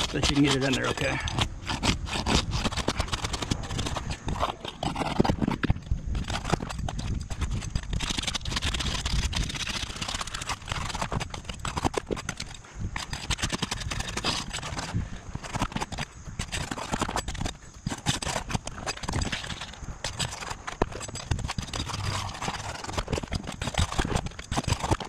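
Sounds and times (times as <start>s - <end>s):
bar scraping under shingles: 0.0s - 25.0s.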